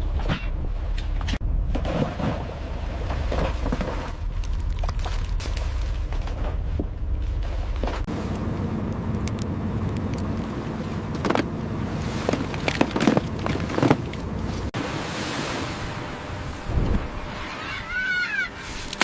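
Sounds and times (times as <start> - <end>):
sea and wind noise: 0.0 - 19.0
boat engine running: 2.4 - 19.0.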